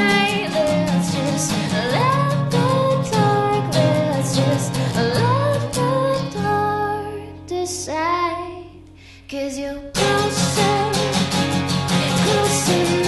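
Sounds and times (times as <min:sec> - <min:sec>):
guitar strumming: 0:00.0 - 0:08.2, 0:10.0 - 0:13.0
woman singing: 0:00.0 - 0:13.0.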